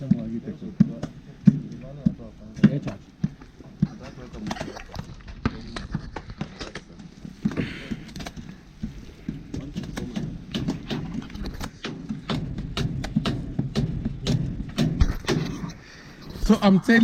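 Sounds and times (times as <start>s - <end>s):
sharp knocks and clicks: 0.0s - 15.8s.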